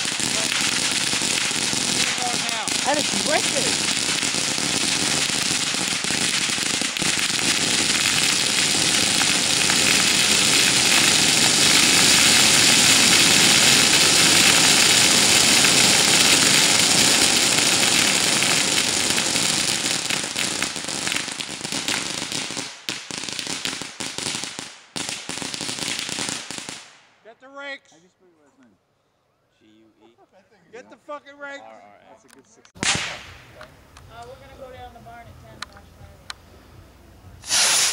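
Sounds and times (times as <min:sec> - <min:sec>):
firecrackers crackling: 0:00.0 - 0:27.1, 0:32.7 - 0:37.9.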